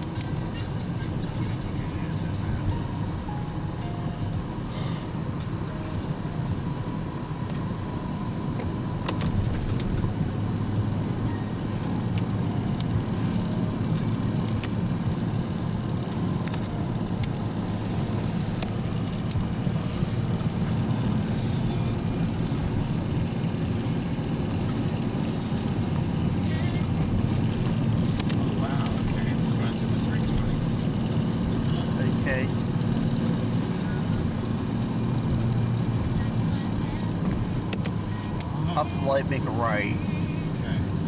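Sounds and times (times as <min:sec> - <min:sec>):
car road noise: 0:00.0 - 0:41.0.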